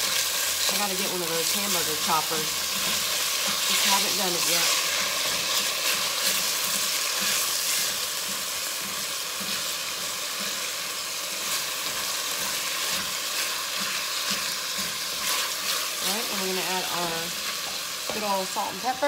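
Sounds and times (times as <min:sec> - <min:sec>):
meat sizzling in oil: 0:00.0 - 0:19.0
wooden spoon stirring: 0:01.5 - 0:18.3.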